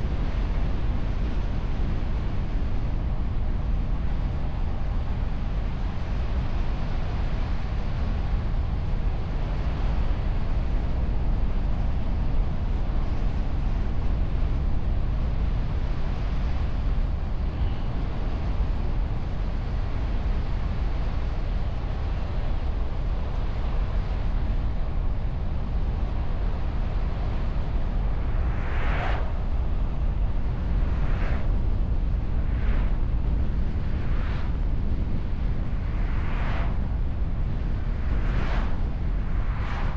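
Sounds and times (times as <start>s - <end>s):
car wind and road noise: 0.0s - 39.9s.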